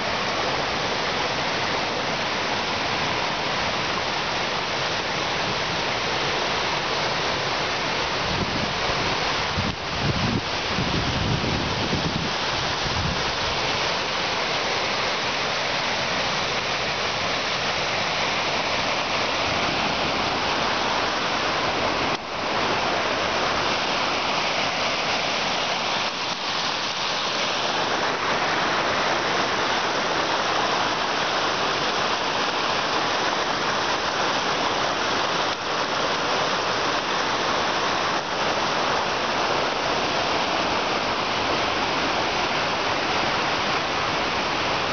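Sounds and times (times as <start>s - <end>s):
water rushing over rocks: 0.0s - 44.9s.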